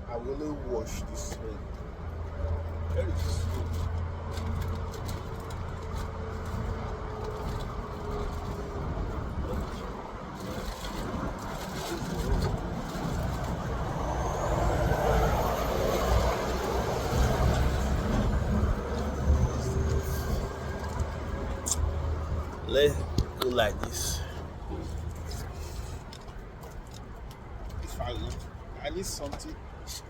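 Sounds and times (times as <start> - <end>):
heavy vehicle engine rumble: 0.0 - 30.0.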